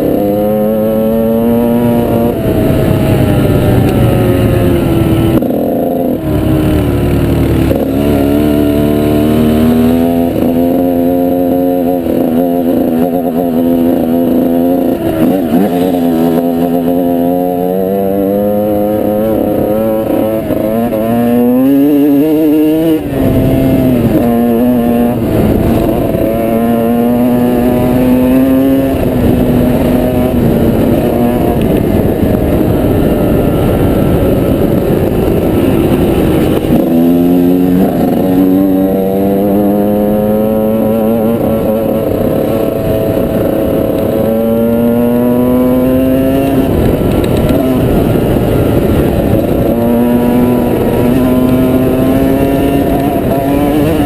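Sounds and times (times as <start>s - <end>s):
motorcycle engine revving: 0.0s - 54.0s
steady rushing noise: 0.0s - 54.0s.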